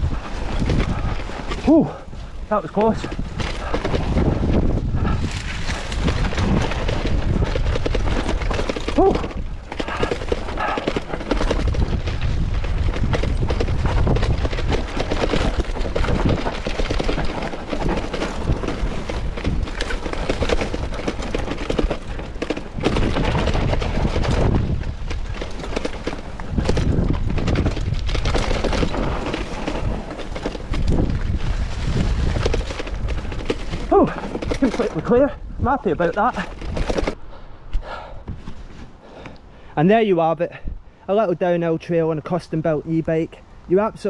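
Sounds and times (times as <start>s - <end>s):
bike frame and chain rattling: 0.0s - 37.2s
bike tyres rolling over dirt: 0.0s - 37.2s.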